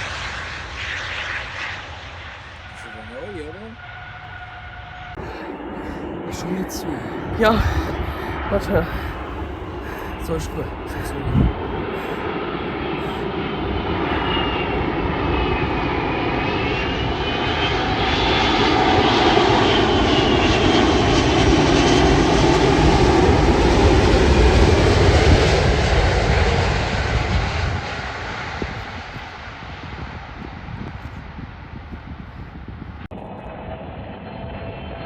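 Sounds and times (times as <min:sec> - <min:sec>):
jet airliner passing: 0:00.0 - 0:35.0
jet engine high whine: 0:00.0 - 0:35.0.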